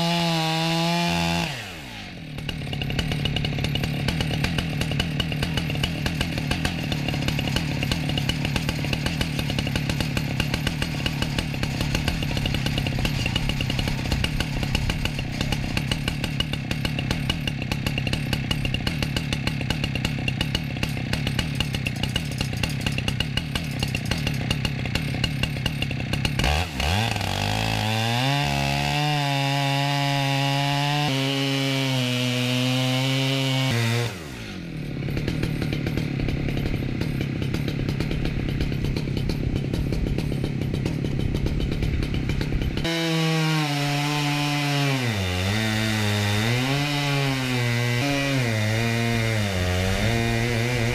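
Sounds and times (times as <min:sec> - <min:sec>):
chainsaw cutting through log: 0:00.0 - 0:50.9.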